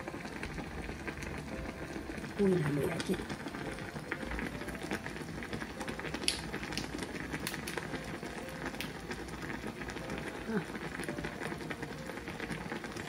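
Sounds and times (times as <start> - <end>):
broth bubbling in a pot: 0.0 - 13.0.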